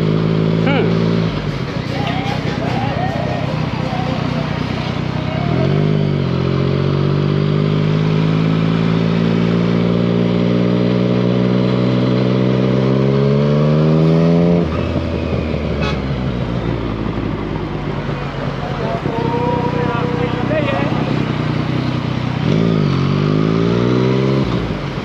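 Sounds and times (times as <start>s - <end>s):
motorcycle engine under throttle: 0.0s - 25.0s.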